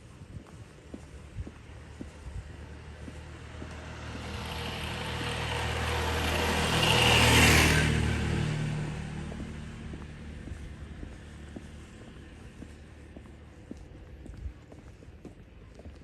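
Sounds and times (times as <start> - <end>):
motor vehicle passing by: 1.1 - 14.3.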